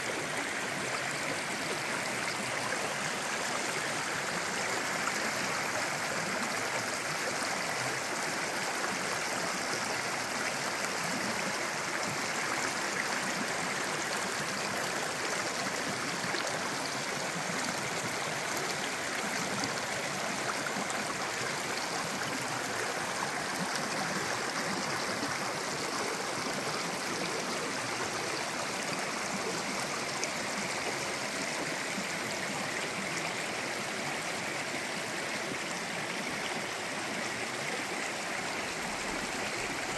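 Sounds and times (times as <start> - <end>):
stream of water running: 0.0 - 39.9.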